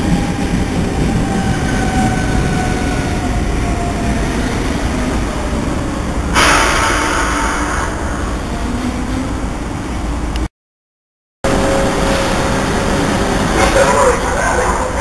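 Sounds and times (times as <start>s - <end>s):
trains rumbling: 0.0s - 10.5s, 11.4s - 15.0s.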